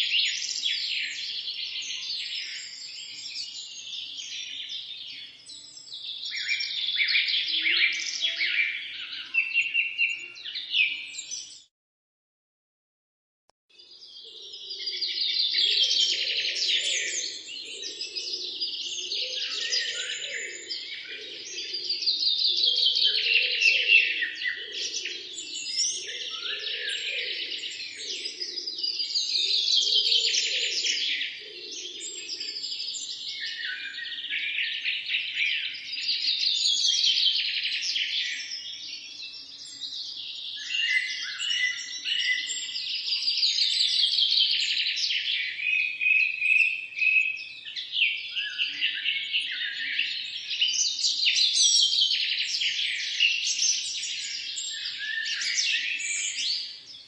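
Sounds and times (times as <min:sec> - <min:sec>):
songbirds chirping and singing: 0:00.0 - 0:11.7, 0:13.7 - 0:57.0.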